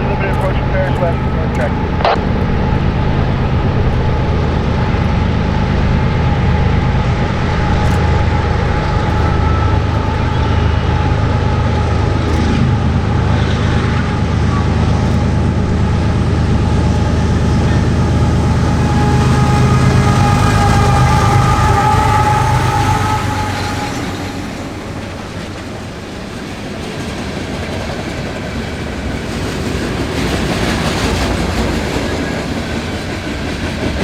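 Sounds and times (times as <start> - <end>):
locomotive engines droning: 0.0 - 34.0
train rumbling: 0.0 - 34.0.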